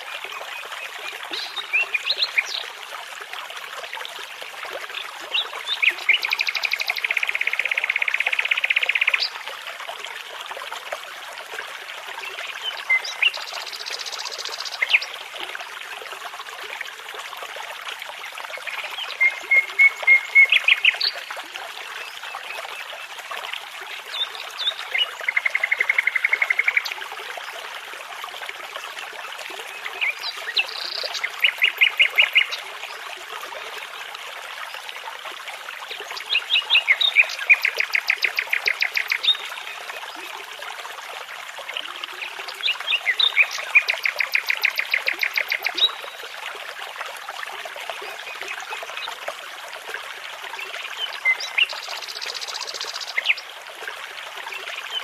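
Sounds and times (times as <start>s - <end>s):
babbling brook: 0.0s - 55.0s.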